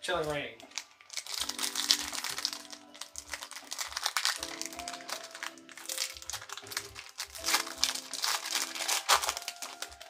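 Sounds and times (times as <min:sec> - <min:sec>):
background music with steady beat: 0:00.0 - 0:10.0
foil wrapper crinkling: 0:00.1 - 0:10.0.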